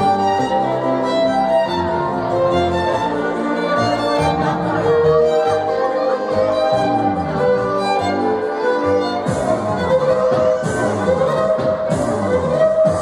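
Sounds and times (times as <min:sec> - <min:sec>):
string and bass accompaniment: 0:00.0 - 0:13.0
violin playing fast melody: 0:00.0 - 0:13.0.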